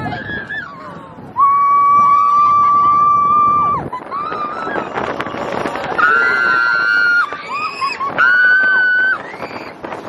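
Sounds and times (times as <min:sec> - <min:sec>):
wind and ride noise: 0:00.0 - 0:10.0.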